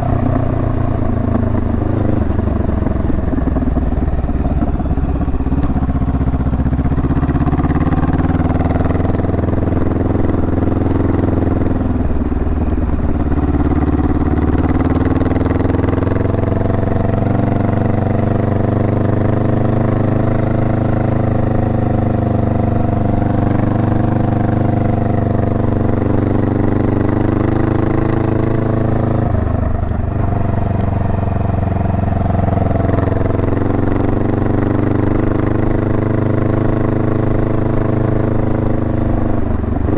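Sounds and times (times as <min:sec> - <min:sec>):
motorcycle engine riding along: 0:00.0 - 0:39.9.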